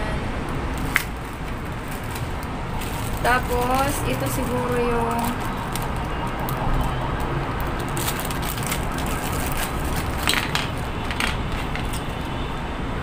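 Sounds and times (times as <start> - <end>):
plastic bags crinkling: 0.8 - 12.4.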